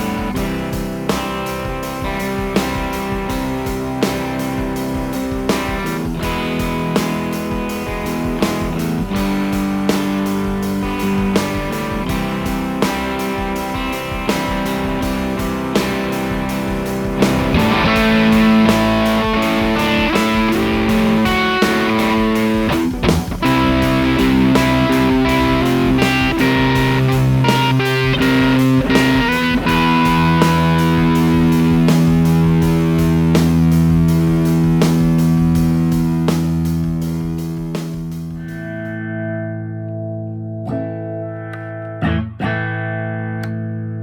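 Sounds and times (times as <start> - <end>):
electric guitar with light overdrive: 0.0 - 44.0.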